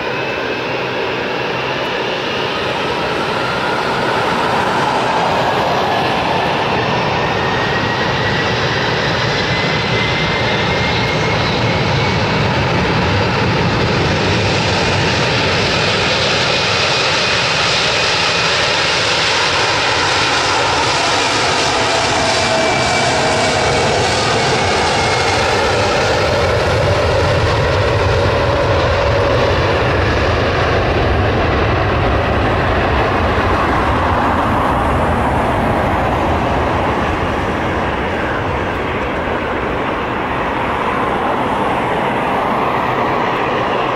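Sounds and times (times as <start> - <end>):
faint jet engine whine: 0.0 - 43.9
jet engines roaring on takeoff: 0.0 - 43.9.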